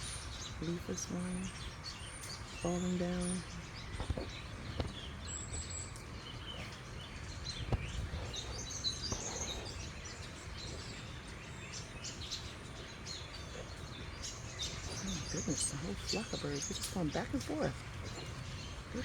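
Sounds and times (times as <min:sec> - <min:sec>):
low outdoor rumble: 0:00.0 - 0:19.0
songbirds chirping and twittering: 0:00.0 - 0:19.0.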